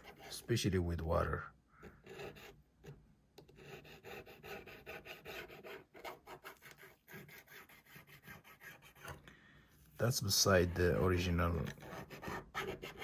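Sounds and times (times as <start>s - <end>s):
faint scraping and rubbing strokes: 1.8s - 13.0s.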